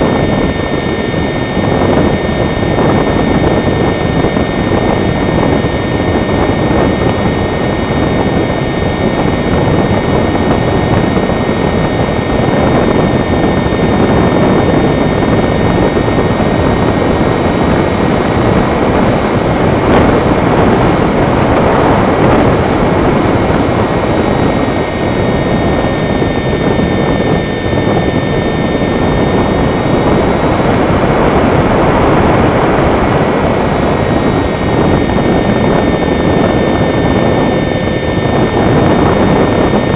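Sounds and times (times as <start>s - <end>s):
electric motor whining: 0.0s - 39.9s
wind noise on microphone: 0.0s - 39.9s.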